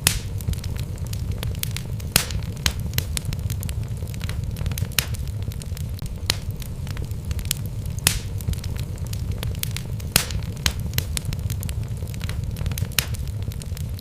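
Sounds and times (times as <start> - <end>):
sharp pops from burning logs: 0.0 - 14.0
wood fire burning: 0.0 - 14.0.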